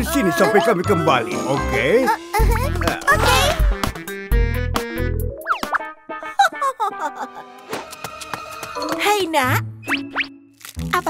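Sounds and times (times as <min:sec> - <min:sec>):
bouncy cartoon music: 0:00.0 - 0:11.0.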